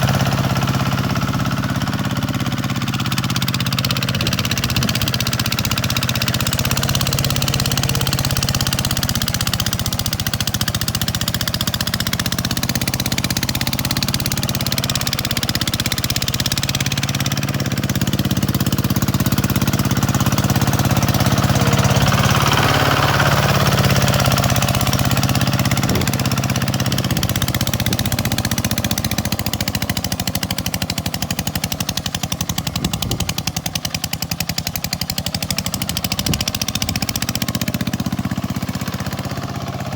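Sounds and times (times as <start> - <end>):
diesel tractor engine clattering: 0.0 - 39.9.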